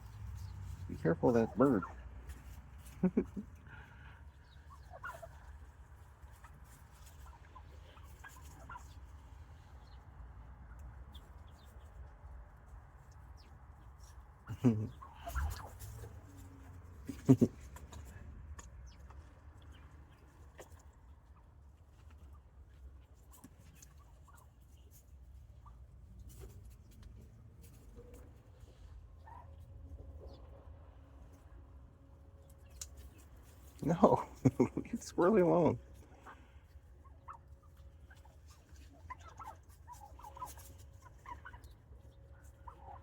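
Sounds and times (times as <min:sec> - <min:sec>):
wild turkeys clucking softly: 0:00.0 - 0:43.0.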